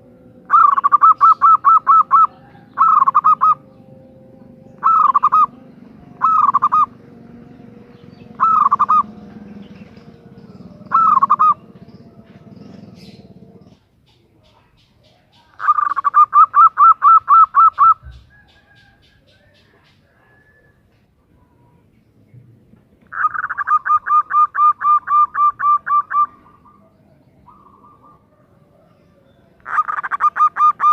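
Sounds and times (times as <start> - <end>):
dove cooing: 0.0 - 13.9, 15.1 - 21.8, 22.6 - 30.9.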